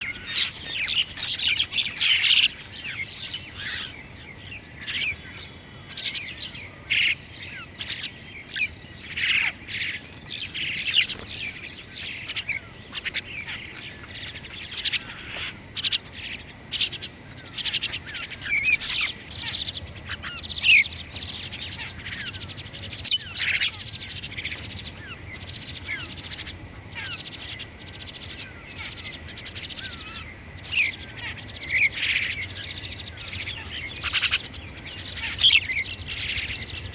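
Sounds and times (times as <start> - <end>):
songbirds chirping: 0.0 - 36.9.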